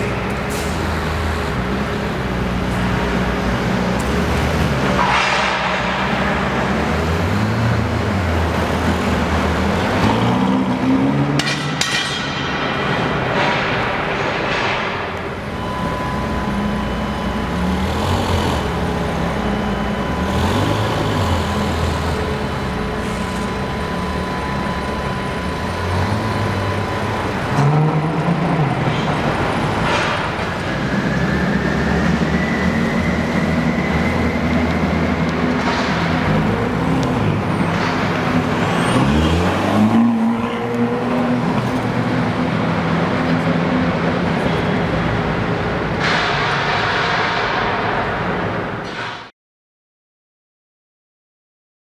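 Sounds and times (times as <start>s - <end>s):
car engine revving: 0.0s - 12.0s, 12.6s - 46.1s
street traffic: 0.0s - 49.3s.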